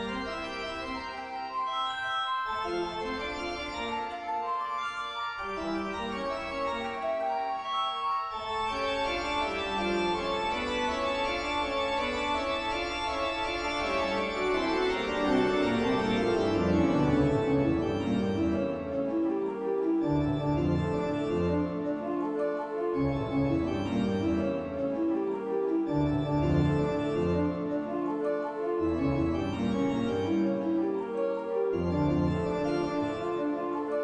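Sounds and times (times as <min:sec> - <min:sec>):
sustained chord music: 0:00.0 - 0:34.0.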